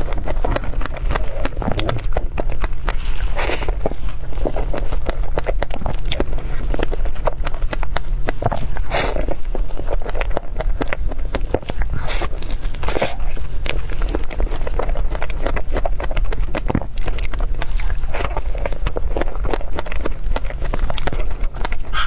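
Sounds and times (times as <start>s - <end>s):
chewing with wet mouth clicks: 0.0s - 22.0s
steady low hum: 0.0s - 22.0s.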